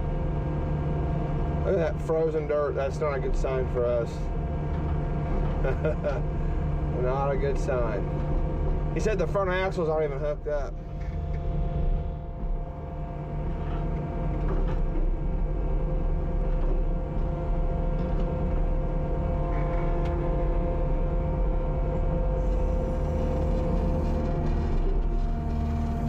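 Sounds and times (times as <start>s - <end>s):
steady hum: 0.0s - 26.0s
diesel engine droning: 1.6s - 13.6s, 14.6s - 26.0s.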